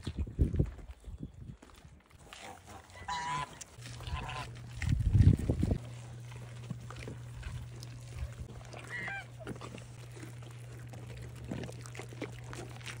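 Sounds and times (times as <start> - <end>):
goats chewing: 0.0 - 13.0
steady low hum: 2.2 - 13.0.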